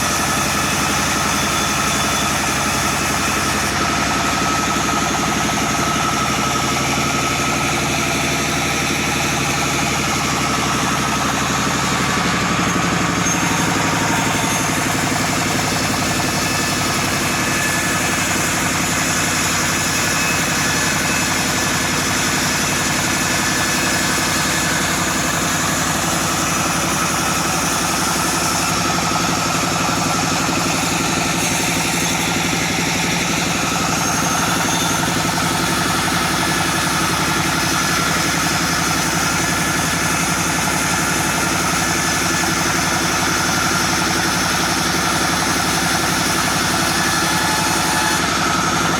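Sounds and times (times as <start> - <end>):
chainsaw engine running: 0.0 - 48.9.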